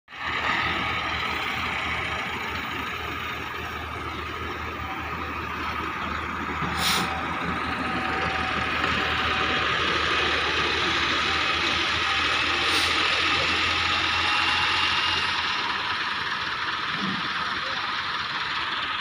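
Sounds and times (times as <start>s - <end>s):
tractor diesel engine running: 0.1s - 19.0s.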